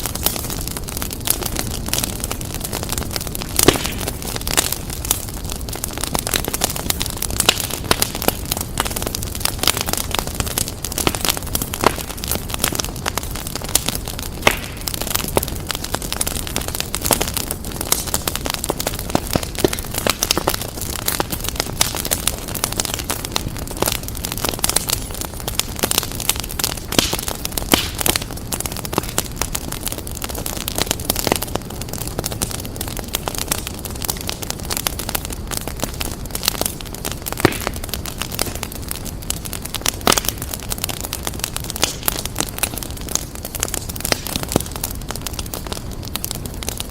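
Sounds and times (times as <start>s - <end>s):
flames rumbling and hissing: 0.0s - 46.9s
wood fire crackling and popping: 0.0s - 46.9s.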